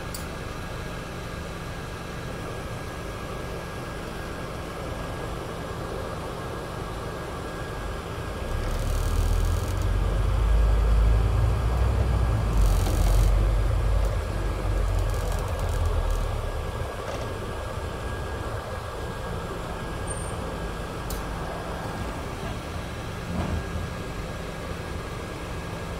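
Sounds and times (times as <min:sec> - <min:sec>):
bus diesel engine rumble: 0:00.0 - 0:25.9.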